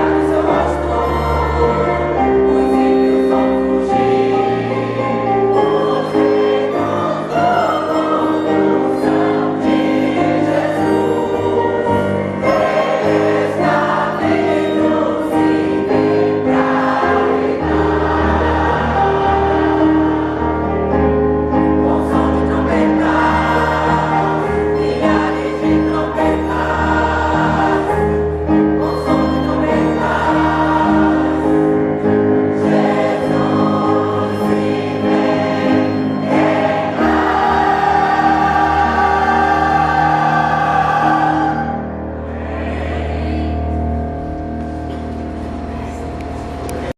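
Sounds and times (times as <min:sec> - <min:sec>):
choir singing a hymn: 0:00.0 - 0:46.9.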